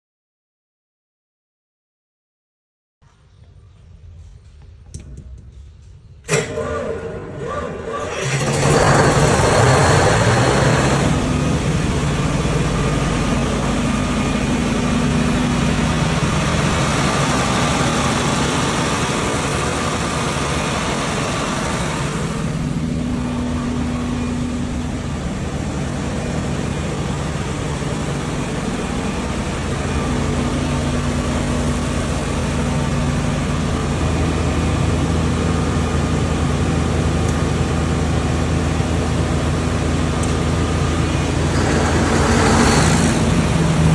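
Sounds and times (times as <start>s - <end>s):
generator engine hum: 3.1s - 43.9s.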